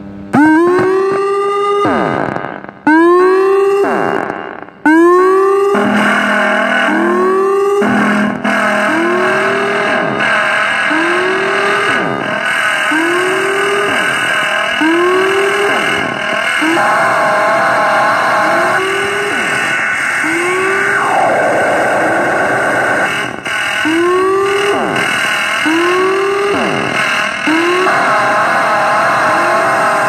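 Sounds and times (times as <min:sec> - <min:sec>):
harsh noise music: 0:00.0 - 0:30.0
bright blast of noise: 0:00.3 - 0:30.0.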